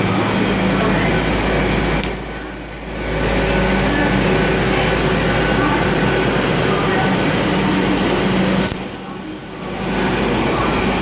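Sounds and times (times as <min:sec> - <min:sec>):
passenger train passing: 0:00.0 - 0:11.0.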